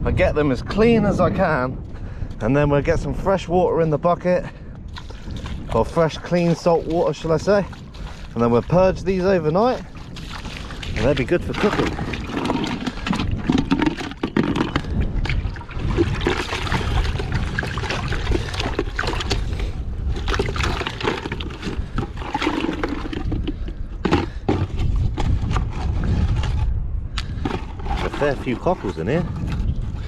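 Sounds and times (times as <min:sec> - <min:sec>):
water sloshing in bucket: 0:04.9 - 0:30.0.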